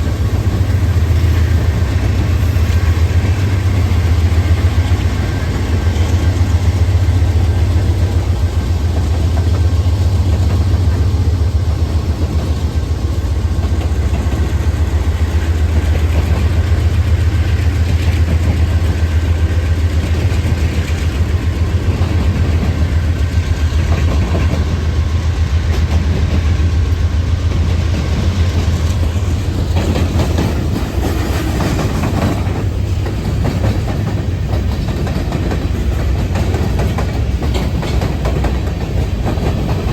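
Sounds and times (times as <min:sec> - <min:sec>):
diesel locomotive drone: 0:00.0 - 0:39.9
freight cars rolling on rails: 0:00.0 - 0:39.9.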